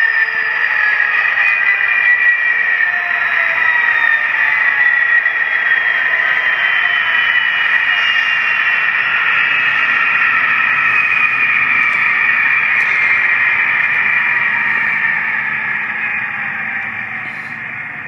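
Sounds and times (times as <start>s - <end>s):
model diesel engine whine: 0.0s - 18.0s.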